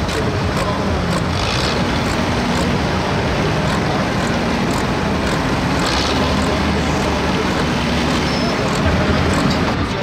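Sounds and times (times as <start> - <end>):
diesel tractor engine droning: 0.0 - 10.0.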